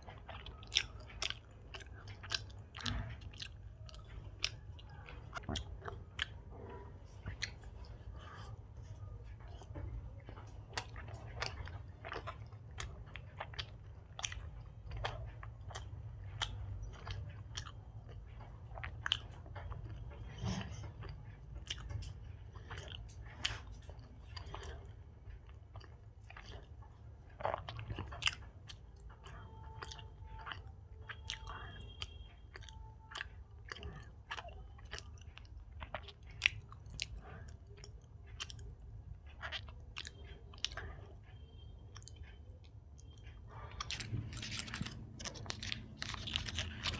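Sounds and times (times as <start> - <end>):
wet chewing mouth clicks: 0.0 - 8.6, 9.2 - 46.9.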